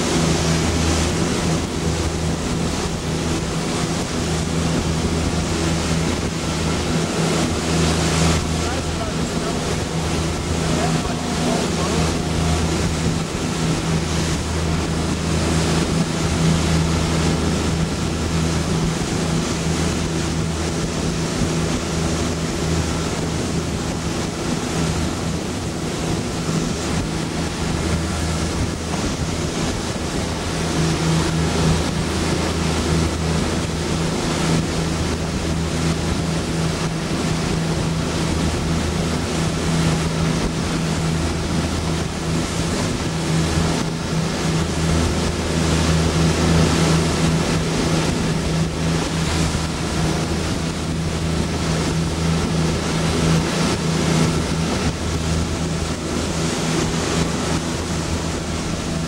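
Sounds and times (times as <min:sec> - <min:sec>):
boat engine humming: 0:00.0 - 0:59.0
water rushing past hull: 0:00.0 - 0:59.0
wind buffeting microphone: 0:00.0 - 0:59.0.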